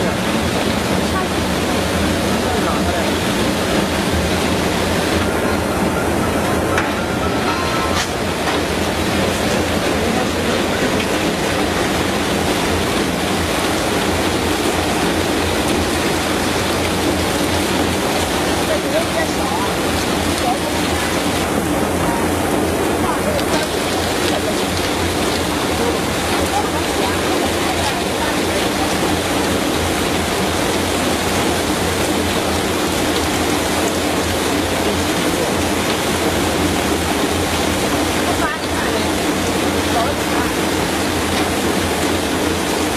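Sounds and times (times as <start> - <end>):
potato washing machine running: 0.0 - 42.9
water spray splashing: 0.0 - 42.9.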